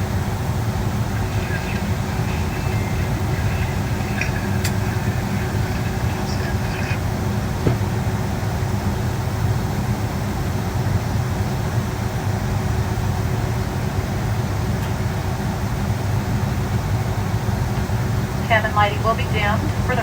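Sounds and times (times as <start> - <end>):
faint steady hum: 0.0 - 20.0
jet engine and airflow rumble: 0.0 - 20.0.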